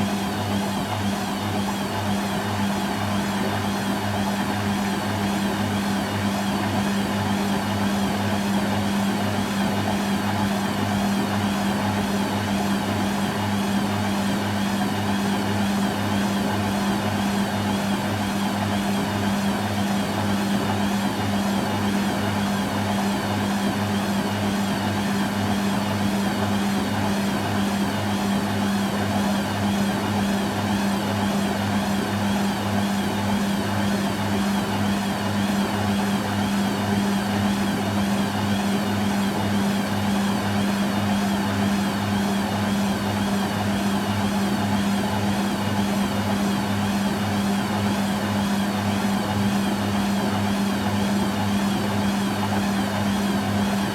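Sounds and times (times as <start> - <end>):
washing machine humming and throbbing: 0.0 - 53.9.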